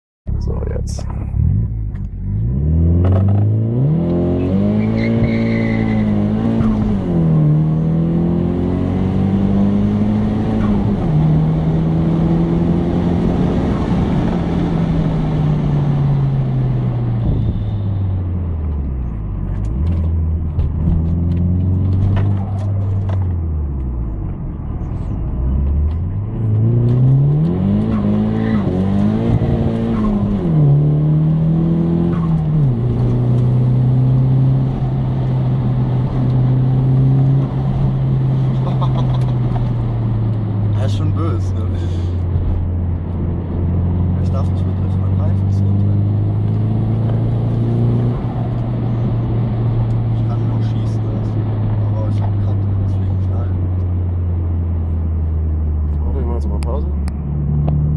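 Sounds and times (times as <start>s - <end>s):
car engine accelerating through gears: 0.4s - 57.9s.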